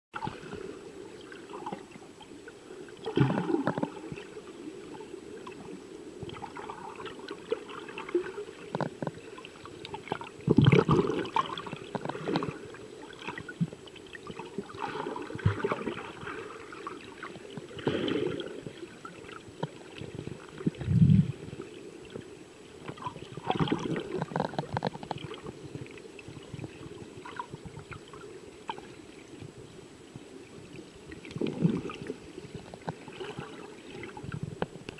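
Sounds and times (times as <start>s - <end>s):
muffled underwater wash: 0.1s - 34.9s
underwater surges and knocks: 0.2s - 34.9s.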